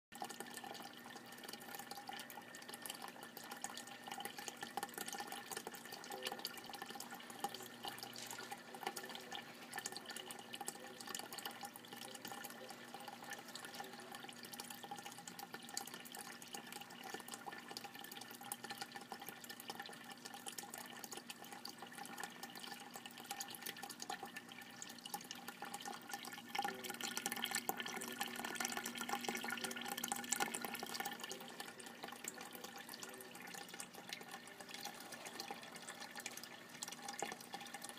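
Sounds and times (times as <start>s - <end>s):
aquarium filter water splashing: 0.1s - 37.9s.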